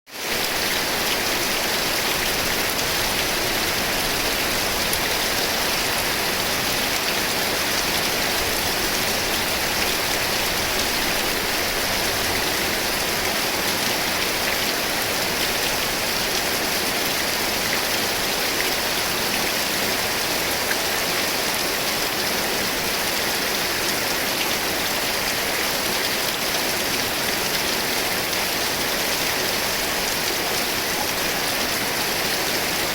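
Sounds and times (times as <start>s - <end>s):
steady rain falling: 0.1s - 32.9s.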